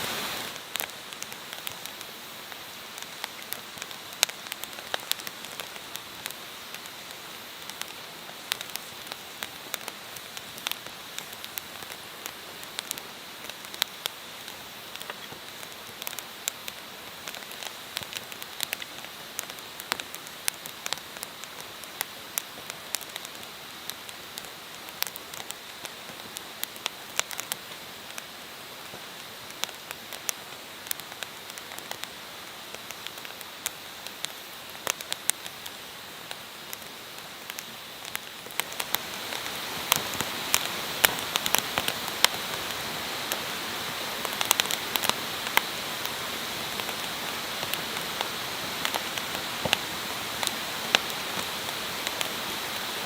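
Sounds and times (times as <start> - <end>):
burning wood crackling and popping: 0.0 - 53.0
campfire hissing: 0.0 - 53.0.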